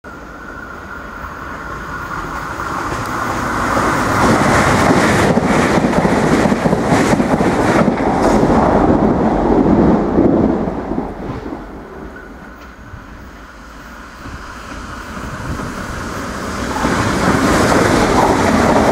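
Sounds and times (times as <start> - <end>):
diesel train passing: 0.0 - 18.9.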